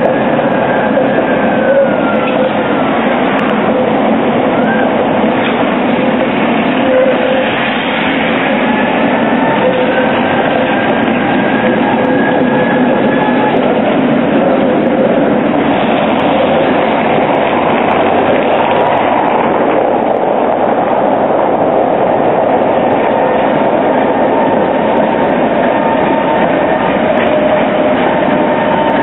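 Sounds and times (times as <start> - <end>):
thin tram motor whine: 0.0 - 20.8, 22.4 - 29.0
tram wheels on rails: 0.0 - 29.0.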